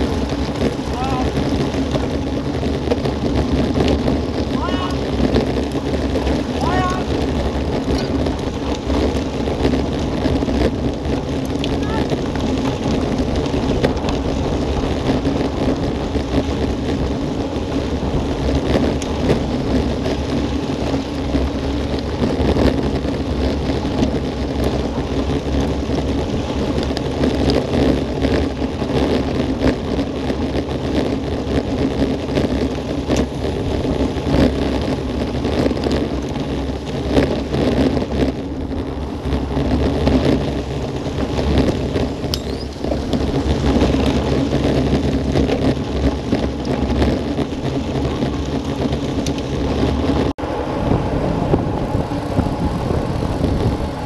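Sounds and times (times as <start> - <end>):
bike tyres rolling over gravel: 0.0 - 54.0
wind buffeting microphone: 0.0 - 54.0.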